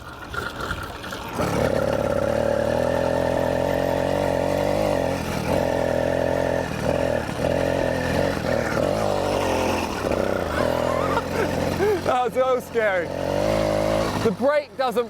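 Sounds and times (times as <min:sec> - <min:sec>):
two-stroke engine buzzing: 0:00.0 - 0:15.0.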